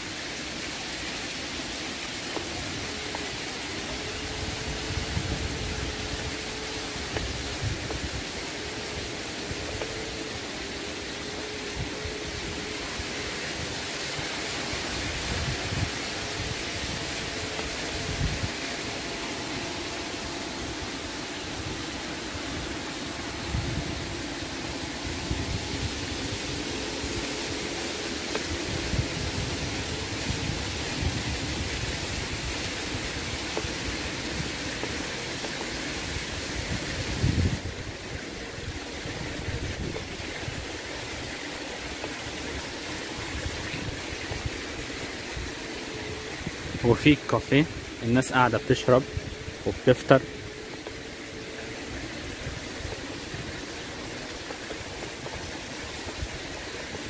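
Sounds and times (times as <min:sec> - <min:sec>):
faint wavering hum: 0:00.0 - 0:57.0
wind rumble on microphone: 0:02.3 - 0:57.0.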